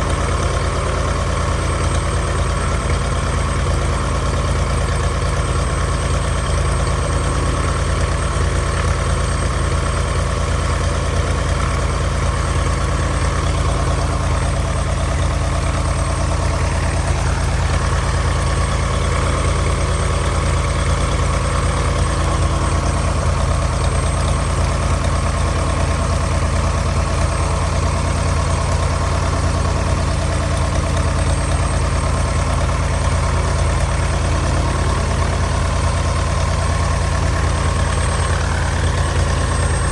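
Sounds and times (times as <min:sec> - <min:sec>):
aircraft engine idling: 0:00.0 - 0:39.9.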